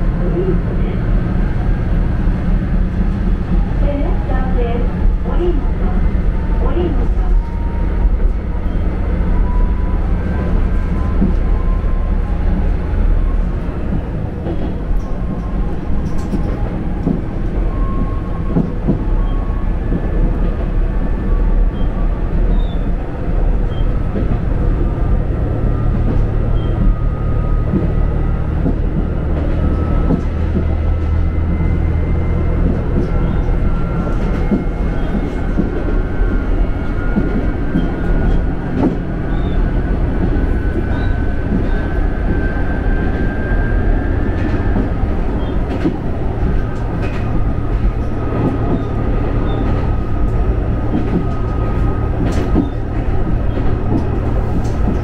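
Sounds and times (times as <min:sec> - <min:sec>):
railcar engine drone: 0:00.0 - 0:55.0.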